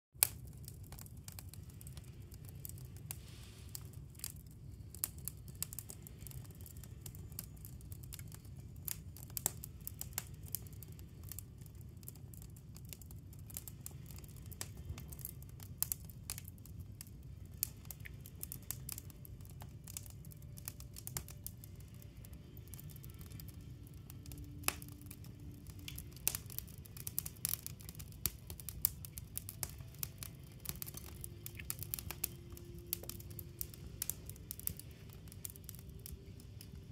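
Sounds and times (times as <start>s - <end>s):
wood fire crackling and popping: 0.2s - 36.9s.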